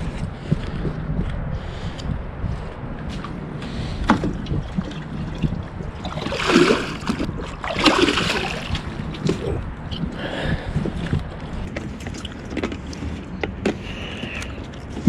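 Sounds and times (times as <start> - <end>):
water sloshing and gurgling: 2.5 - 15.0.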